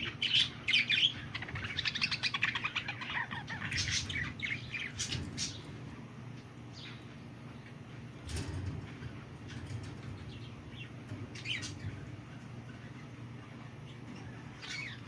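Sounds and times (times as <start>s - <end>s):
small birds chirping: 0.0s - 8.2s, 8.9s - 15.0s.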